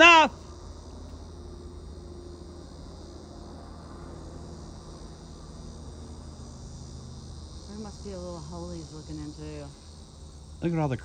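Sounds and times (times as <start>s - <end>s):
insect chorus trilling: 0.0s - 11.0s.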